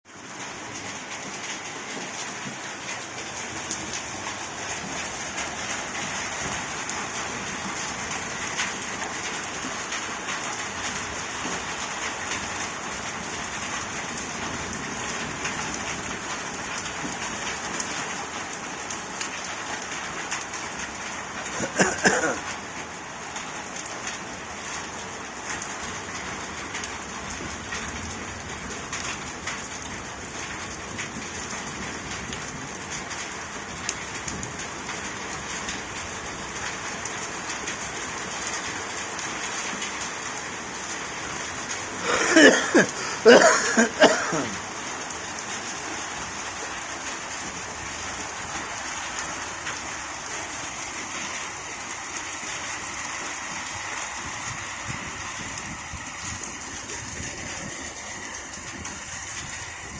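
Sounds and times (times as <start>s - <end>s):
hailstones ticking: 0.1s - 59.9s
rain hiss: 0.1s - 59.9s.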